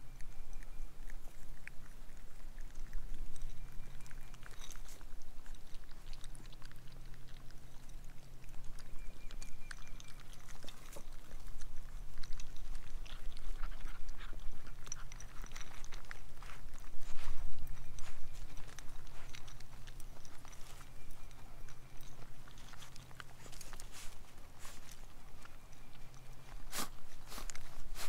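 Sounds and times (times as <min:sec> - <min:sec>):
puppies lapping from metal bowl: 0:00.3 - 0:28.0.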